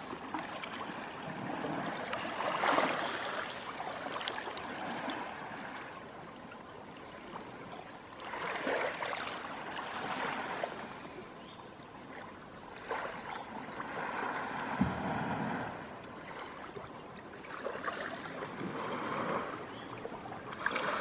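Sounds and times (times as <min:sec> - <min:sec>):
waves lapping on shore: 0:00.0 - 0:21.0.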